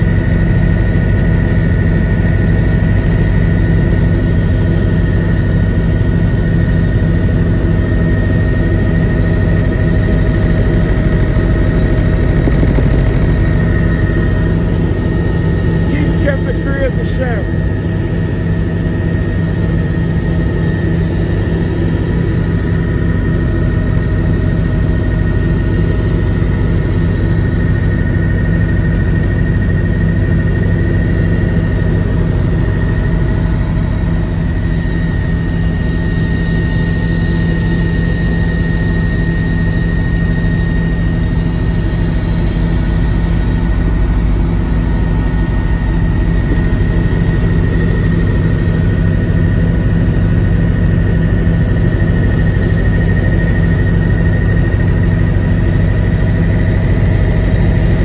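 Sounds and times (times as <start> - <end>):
helicopter rotor and engine drone: 0.0 - 58.0
high-pitched whine: 5.8 - 27.7, 30.8 - 58.0.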